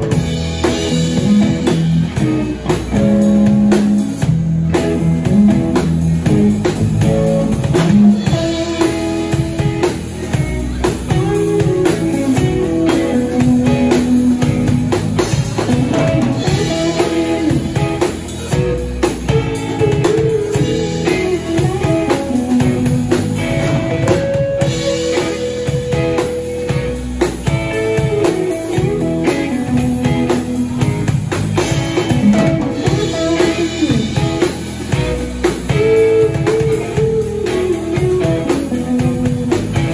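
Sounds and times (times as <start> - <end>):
drum groove: 0.0 - 39.9
electric guitar melody: 0.0 - 39.9.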